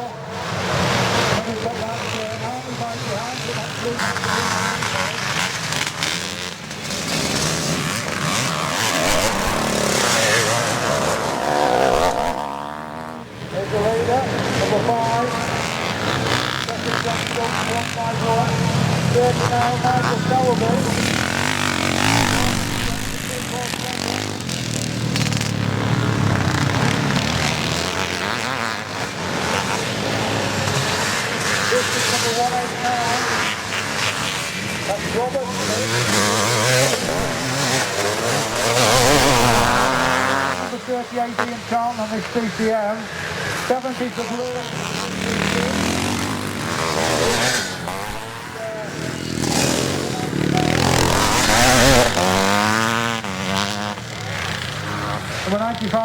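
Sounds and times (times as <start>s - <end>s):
motorcycle engines racing past: 0.0s - 56.0s.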